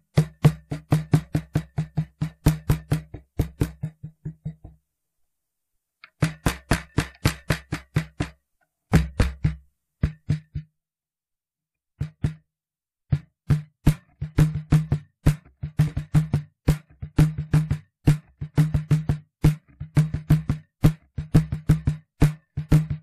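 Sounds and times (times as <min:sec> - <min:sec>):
cajon slaps and bass strokes: 0:00.0 - 0:04.8, 0:06.0 - 0:10.7, 0:12.0 - 0:12.5, 0:13.1 - 0:23.0.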